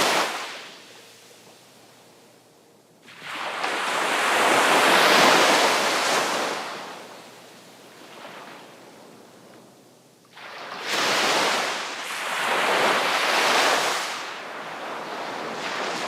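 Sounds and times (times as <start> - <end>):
sea waves washing in and out: 0.0 - 2.0, 3.0 - 9.5, 10.2 - 16.0.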